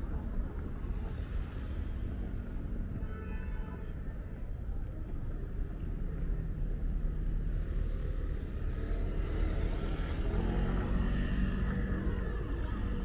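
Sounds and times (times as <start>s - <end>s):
low rumble of passing cars: 0.0s - 3.1s, 3.8s - 13.0s.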